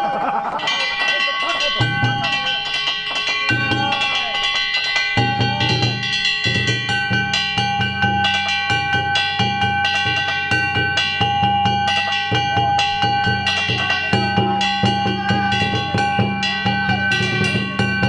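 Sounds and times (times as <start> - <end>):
hand-struck gongs ringing: 0.6 - 18.0
taiko drums beating: 0.6 - 18.0.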